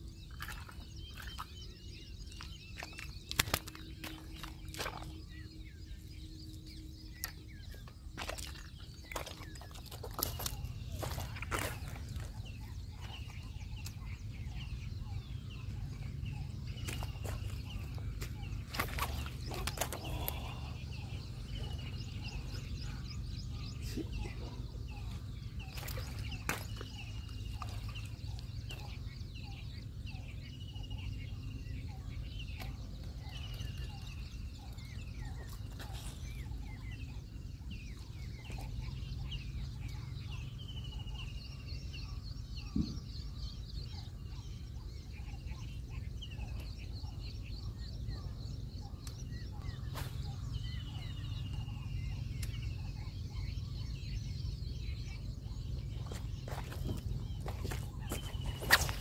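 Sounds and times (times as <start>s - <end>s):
birds chirping: 0.0s - 59.0s
steady low rumble: 0.0s - 59.0s.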